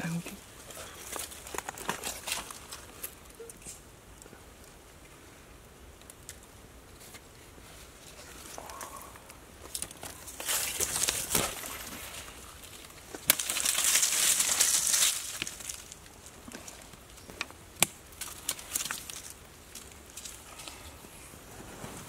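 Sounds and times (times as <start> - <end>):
rustling in dry leaves: 0.1 - 3.4, 6.9 - 22.0.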